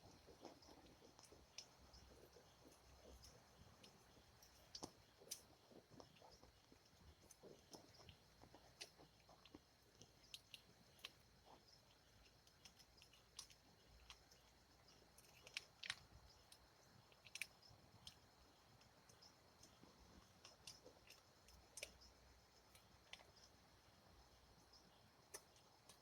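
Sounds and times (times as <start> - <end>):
faint clicks and ticks: 0.0 - 26.0.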